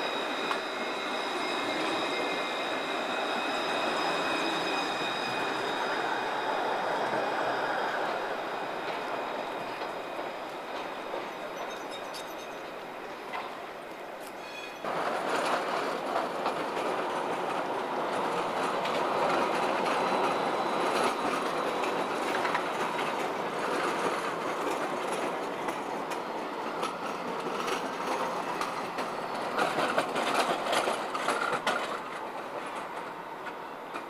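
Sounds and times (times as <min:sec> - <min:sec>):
tram wheels rumbling on rails: 0:00.0 - 0:34.0.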